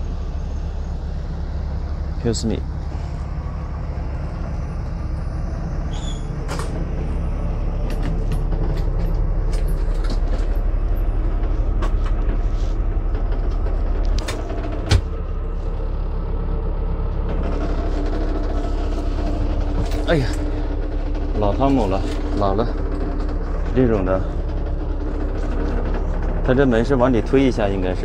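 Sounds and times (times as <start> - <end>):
bus engine idling: 0.0 - 28.0.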